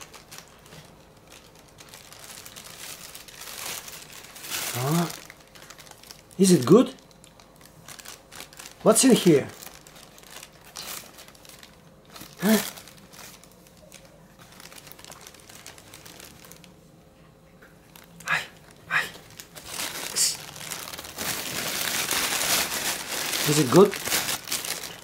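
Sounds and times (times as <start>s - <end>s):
plastic bag crinkling: 0.0s - 16.8s, 17.8s - 25.0s.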